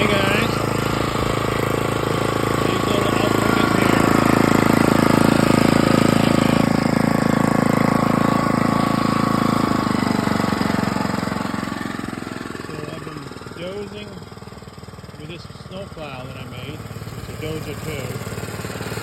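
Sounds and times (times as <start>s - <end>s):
backhoe engine running: 0.0s - 19.0s.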